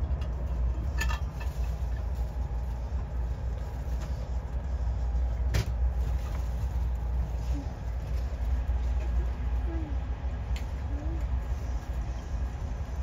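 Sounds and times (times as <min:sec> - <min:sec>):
train rumble from inside car: 0:00.0 - 0:13.0.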